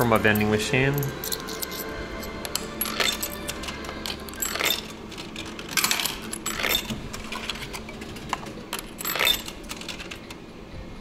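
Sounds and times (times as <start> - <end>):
coins clinking into coin slot: 0.0 - 10.4.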